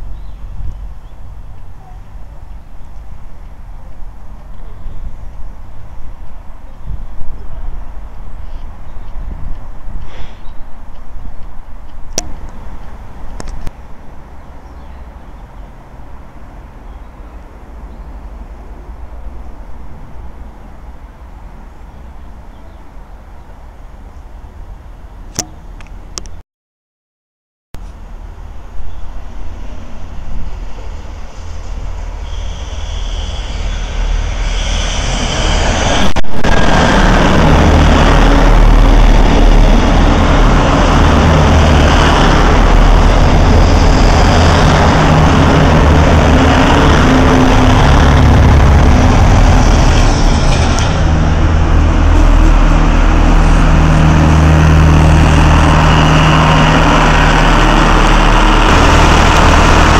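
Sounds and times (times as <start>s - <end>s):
train rumble: 0.0s - 26.2s, 27.8s - 59.9s.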